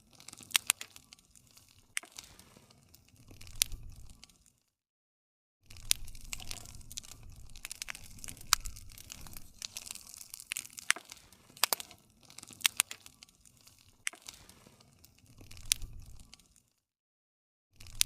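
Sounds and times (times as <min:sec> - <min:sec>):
wood fire crackling: 0:00.0 - 0:04.7, 0:05.7 - 0:16.8, 0:17.8 - 0:18.0.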